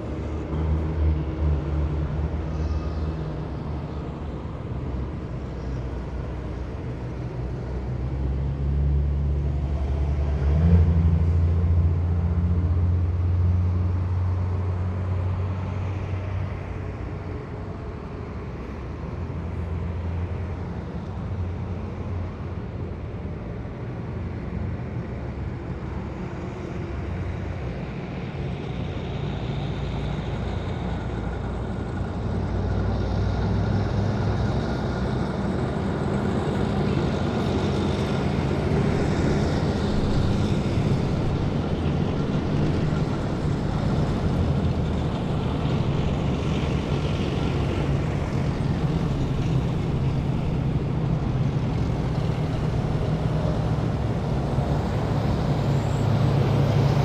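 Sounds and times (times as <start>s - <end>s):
military vehicles driving past: 0.0s - 57.0s.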